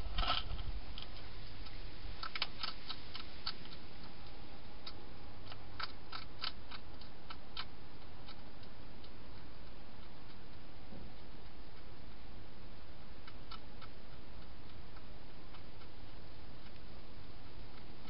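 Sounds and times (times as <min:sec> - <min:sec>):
hedgehog crunching dry food: 0:00.1 - 0:18.0.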